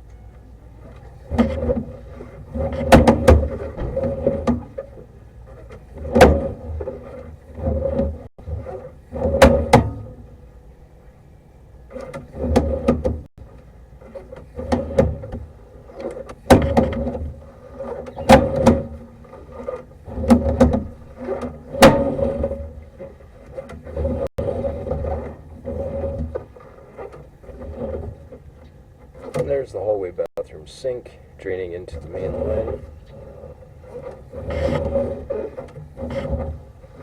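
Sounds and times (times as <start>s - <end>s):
cable scraping in drain: 0.8s - 10.5s, 11.8s - 37.0s.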